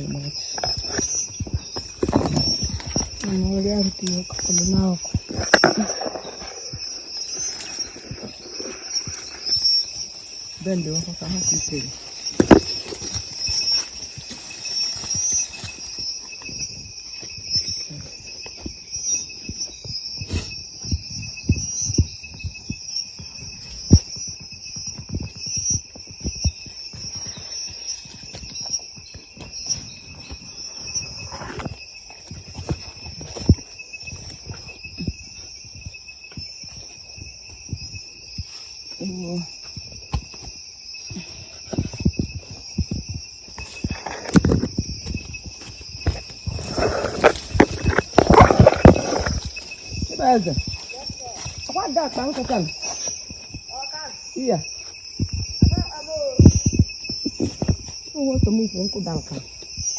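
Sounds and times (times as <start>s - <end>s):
crickets shrilling: 0.0s - 59.9s.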